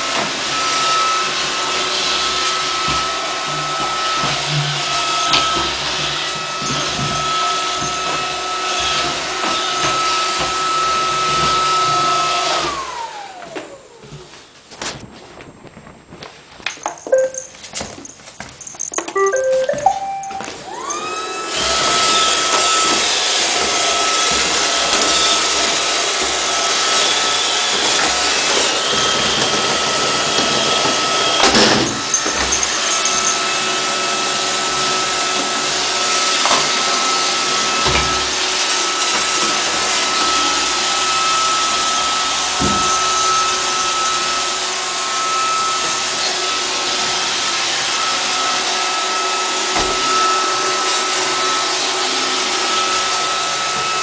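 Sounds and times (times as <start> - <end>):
robot vacuum whining: 0.0 - 14.2, 18.7 - 54.0.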